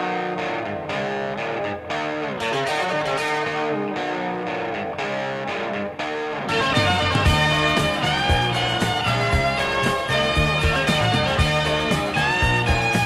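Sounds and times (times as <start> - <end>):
guitar background music: 0.0 - 13.0.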